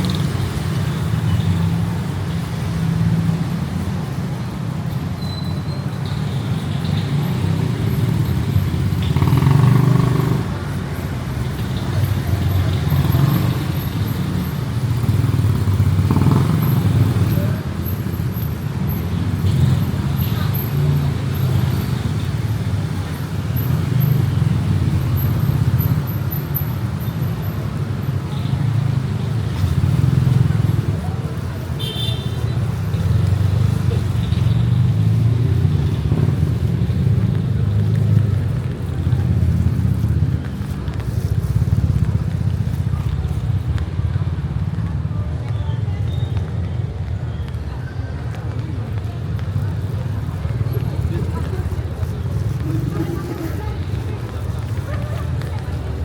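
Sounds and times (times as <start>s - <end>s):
street traffic rumble: 0.0s - 56.0s
vehicle engines running: 0.0s - 56.0s.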